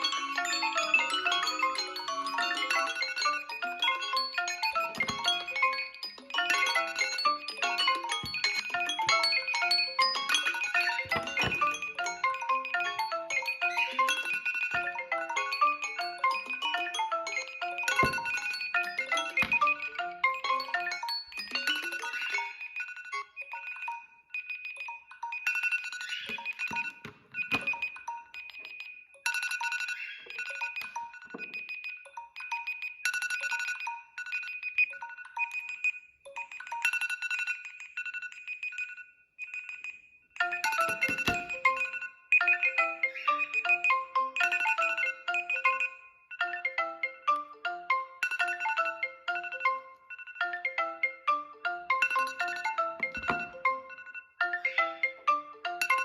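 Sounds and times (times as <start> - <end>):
phone ringtone melody: 0.0 - 56.0.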